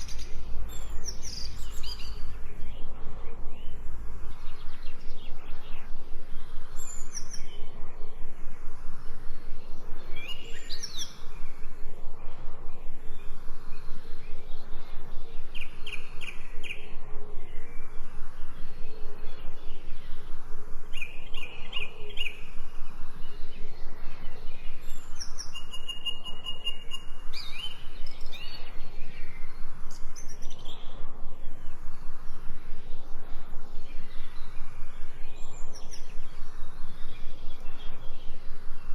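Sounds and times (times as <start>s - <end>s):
birds chirping and singing: 0.0s - 7.8s, 9.5s - 11.8s, 13.1s - 38.9s.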